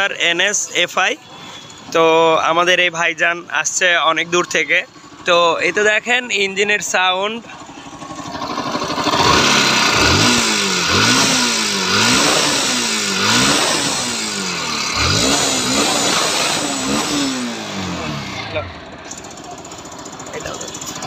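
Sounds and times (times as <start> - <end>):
rough mechanical noise: 3.6 - 21.0
motorcycle engine revving: 3.8 - 21.0.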